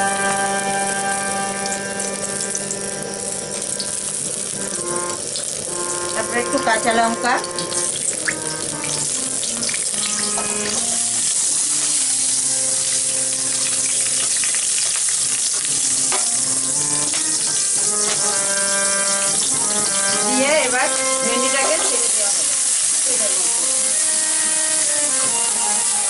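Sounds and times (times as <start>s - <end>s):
chilies frying in hot oil: 0.0s - 26.0s.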